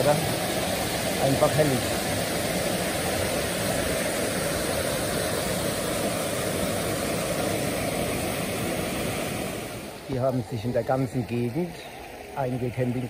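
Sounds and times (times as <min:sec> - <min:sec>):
water rushing over rocks: 0:00.0 - 0:11.4.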